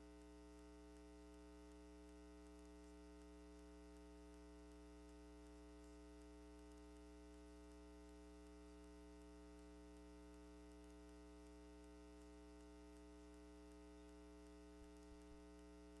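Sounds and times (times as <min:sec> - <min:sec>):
faint electrical mains hum: 0:00.0 - 0:16.0.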